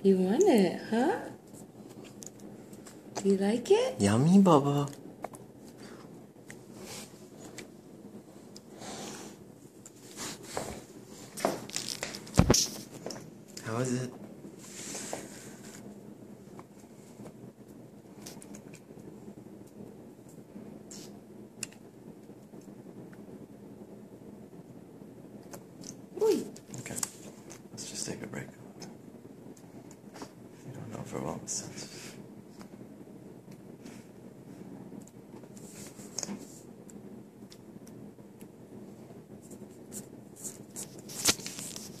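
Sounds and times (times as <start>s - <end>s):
low room hum: 0.0s - 42.0s.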